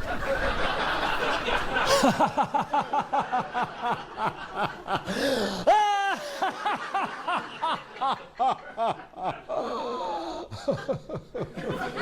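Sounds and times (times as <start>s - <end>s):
person giggling: 1.0s - 3.1s, 3.8s - 12.0s.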